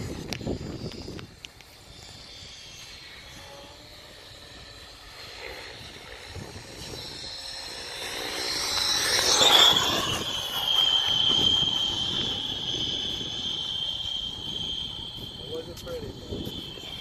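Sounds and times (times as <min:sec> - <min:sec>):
model jet engine whine: 0:00.0 - 0:17.0.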